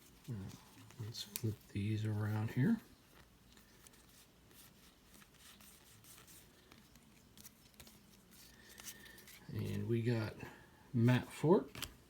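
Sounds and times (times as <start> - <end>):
trading cards rustling: 0.0 - 10.3.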